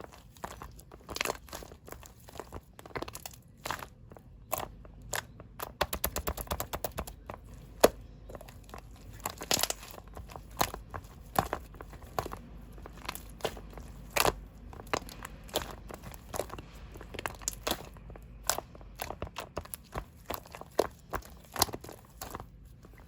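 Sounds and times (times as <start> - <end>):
crinkly material crackling: 0.0 - 5.8, 6.6 - 23.0.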